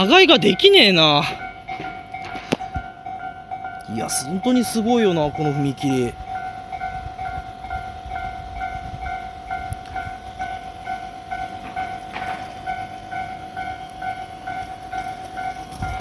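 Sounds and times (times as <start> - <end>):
level crossing warning bell: 0.0 - 16.0.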